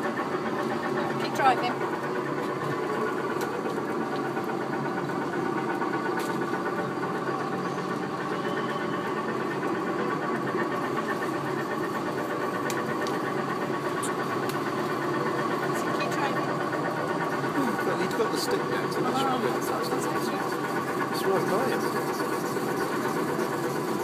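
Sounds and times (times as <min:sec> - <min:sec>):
ride motor humming: 0:00.0 - 0:24.0.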